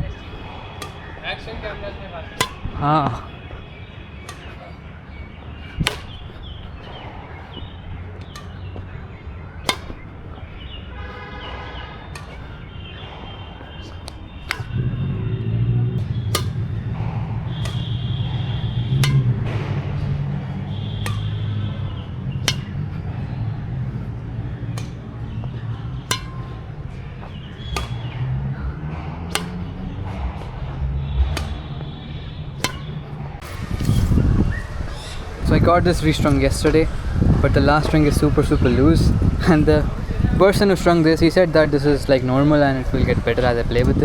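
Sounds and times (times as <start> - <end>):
racket hitting shuttlecock: 0.0 - 44.0.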